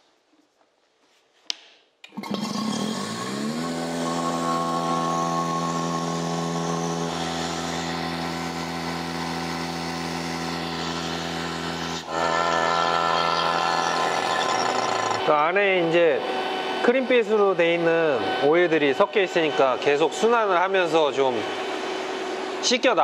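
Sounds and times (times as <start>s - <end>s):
vacuum pump motor running: 2.1s - 23.0s.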